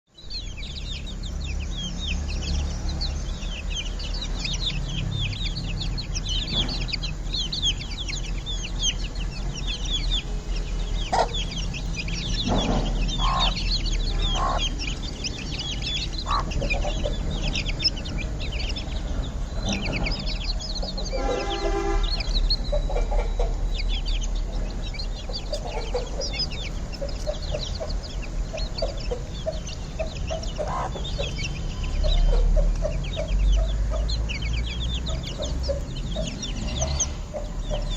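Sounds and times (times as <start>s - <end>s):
steady low rumble: 0.2s - 21.3s, 22.0s - 37.9s
chicks peeping: 0.2s - 37.9s
lower calls: 0.2s - 37.9s.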